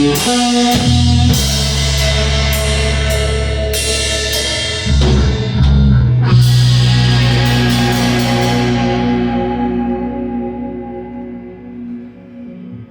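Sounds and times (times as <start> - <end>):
instrumental rock band: 0.0 - 12.9.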